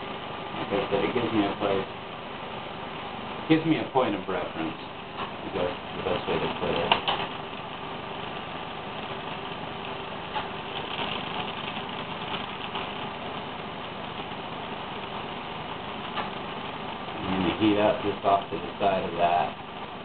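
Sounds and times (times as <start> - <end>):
torch flame rushing: 0.0 - 20.0.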